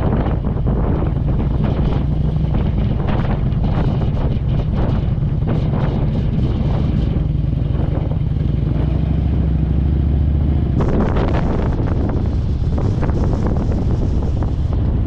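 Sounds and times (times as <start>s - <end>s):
motorcycle engine running: 0.0s - 15.0s
wind buffeting on microphone: 0.0s - 15.0s.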